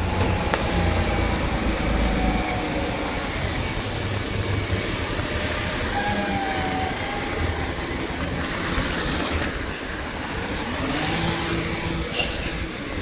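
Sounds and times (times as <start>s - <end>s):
rubbish truck engine: 0.0s - 13.0s
whining tones: 0.0s - 13.0s.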